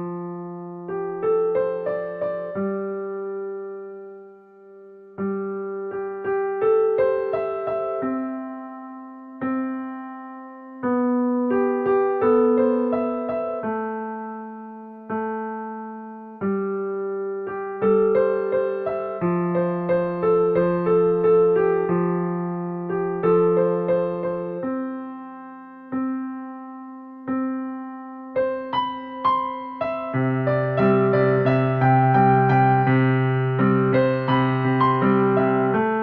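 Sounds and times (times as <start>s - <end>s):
slow piano melody: 0.0s - 36.0s.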